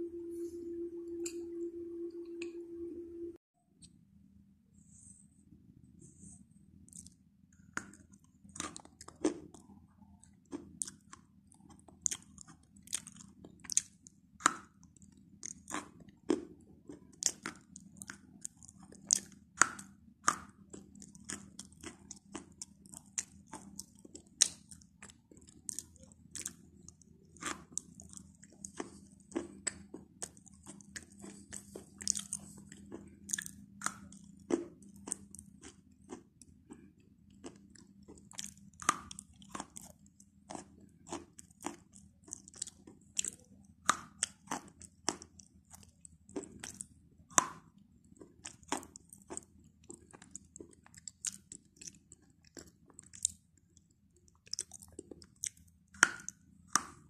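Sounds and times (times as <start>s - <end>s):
chalk being chewed: 7.8s - 47.6s, 48.2s - 57.0s.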